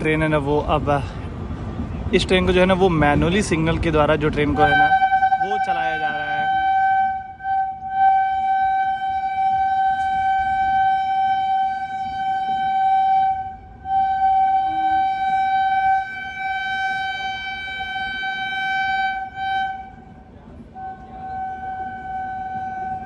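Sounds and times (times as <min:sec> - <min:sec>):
train running rumble: 0:00.0 - 0:23.0
train horn blast: 0:04.5 - 0:23.0.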